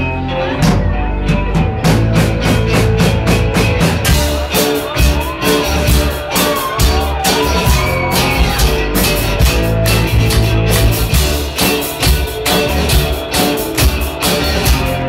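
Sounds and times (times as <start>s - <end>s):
live rock band playing: 0.0s - 15.0s
drum beat: 0.7s - 15.0s.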